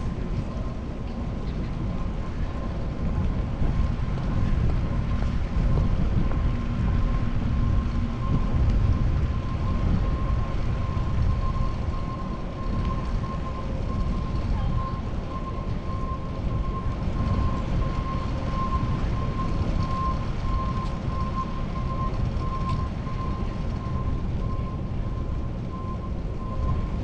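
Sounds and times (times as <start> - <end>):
wind and road rumble: 0.0 - 27.0.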